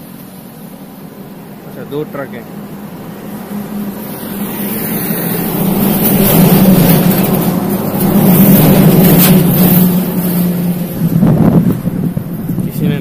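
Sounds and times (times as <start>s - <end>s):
trucks passing on highway: 0.0s - 13.0s
tyre and air rush: 0.0s - 13.0s.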